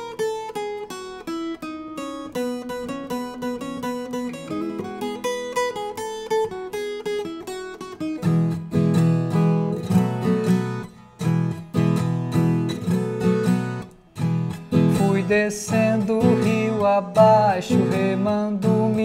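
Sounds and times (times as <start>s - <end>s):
guitar picked melody and strumming: 0.0s - 19.0s.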